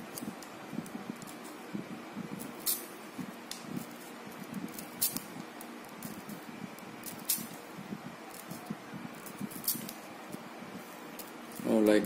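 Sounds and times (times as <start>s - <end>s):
low background rumble: 0.0s - 11.5s.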